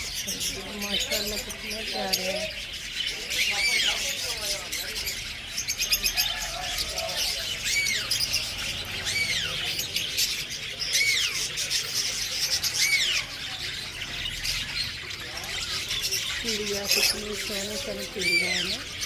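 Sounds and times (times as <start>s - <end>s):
caged birds chirping and squawking: 0.0s - 19.0s.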